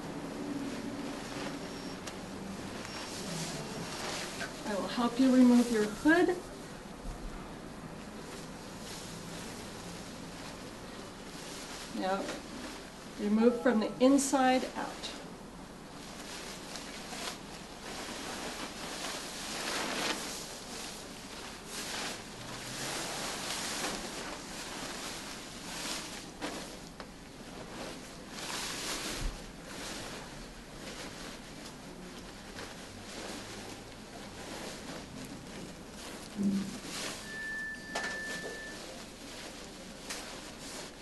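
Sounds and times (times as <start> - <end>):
coverall suit rustling: 0.0 - 41.0.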